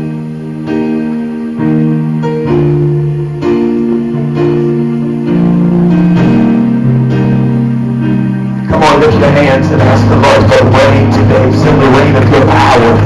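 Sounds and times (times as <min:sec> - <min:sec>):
instrumental worship music chords: 0:00.0 - 0:13.0.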